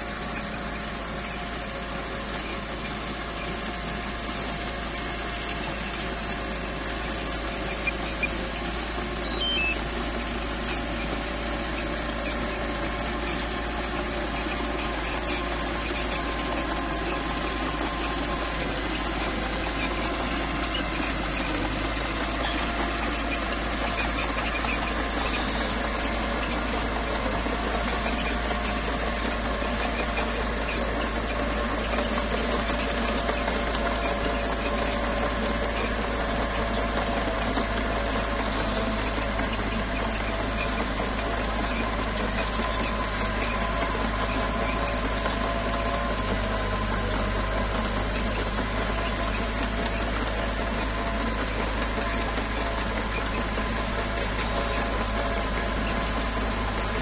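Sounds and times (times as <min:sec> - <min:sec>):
bulldozer engine running: 0:00.0 - 0:57.0.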